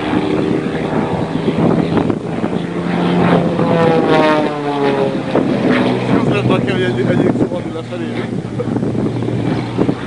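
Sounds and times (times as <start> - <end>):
propeller plane flying past: 0.0 - 10.0.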